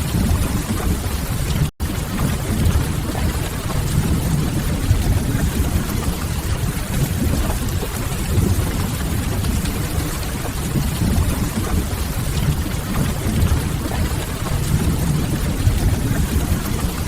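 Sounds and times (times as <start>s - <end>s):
rain on a window: 0.0s - 17.0s
deep rumble: 1.9s - 17.0s.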